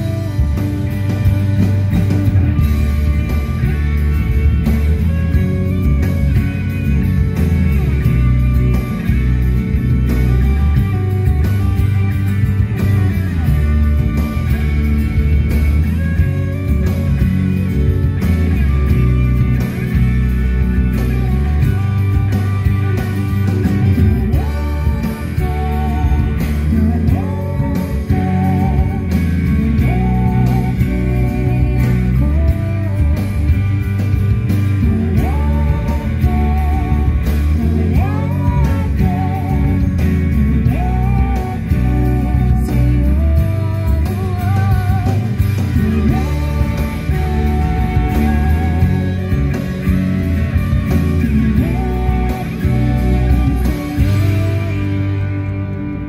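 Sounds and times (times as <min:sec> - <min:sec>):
background guitar music: 0:00.0 - 0:56.0.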